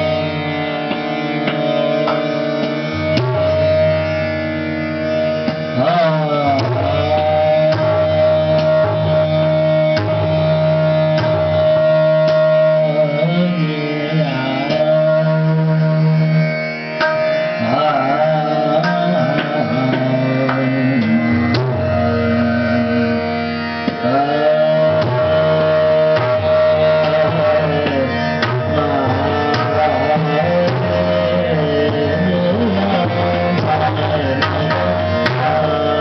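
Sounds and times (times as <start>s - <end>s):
steady drone: 0.0s - 36.0s
tabla strokes: 0.0s - 36.0s
man singing classical vocal: 5.7s - 16.7s, 17.5s - 36.0s.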